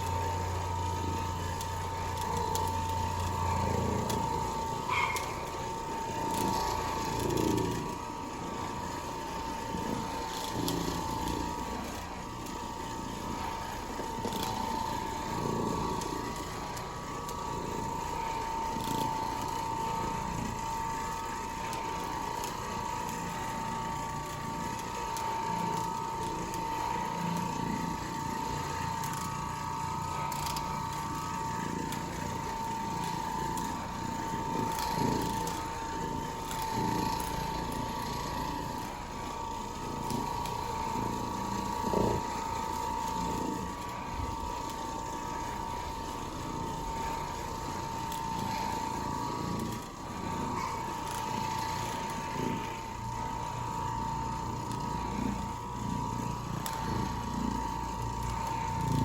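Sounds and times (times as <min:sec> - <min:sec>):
carpet cleaning machine whining: 0:00.0 - 0:59.0.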